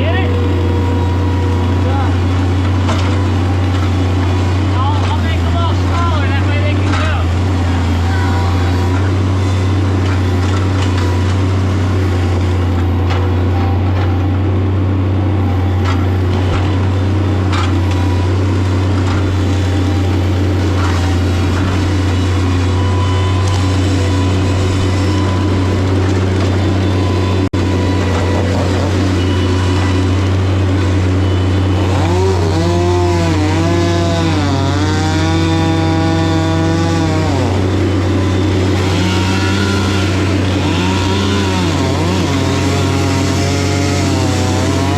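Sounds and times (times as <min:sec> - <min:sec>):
chainsaw cutting wood: 0:00.0 - 0:13.8, 0:15.7 - 0:44.9.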